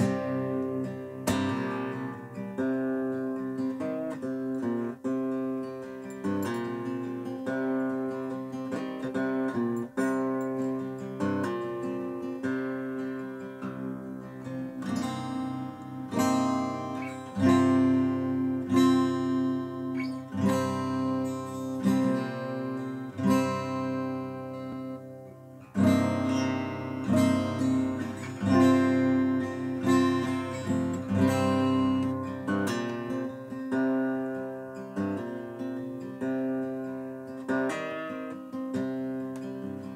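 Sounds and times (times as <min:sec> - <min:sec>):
acoustic guitar strumming chords: 0:00.0 - 0:39.9.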